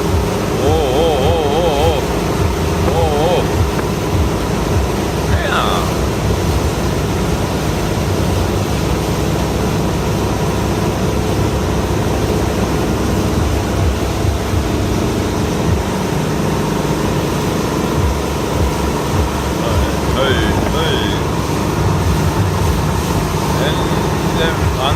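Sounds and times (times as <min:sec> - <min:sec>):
boat engine running: 0:00.0 - 0:24.9
wind and water rushing: 0:00.0 - 0:24.9.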